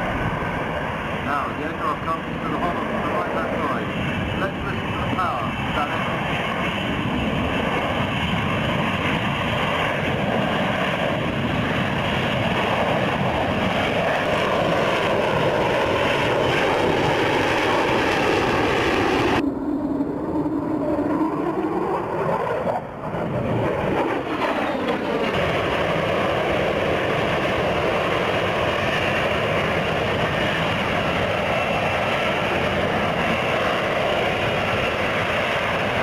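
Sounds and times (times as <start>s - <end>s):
jet engine roaring: 0.0s - 36.0s.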